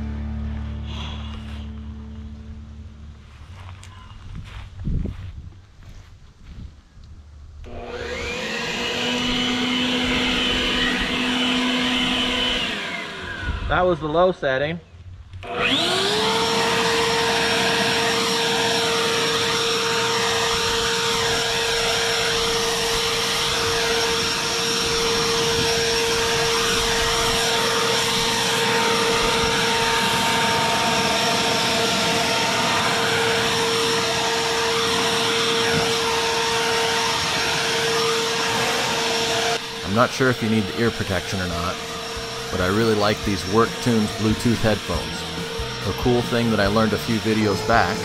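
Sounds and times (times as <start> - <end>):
electric leaf blower whining: 0.0 - 2.6, 7.6 - 14.3, 15.3 - 48.0.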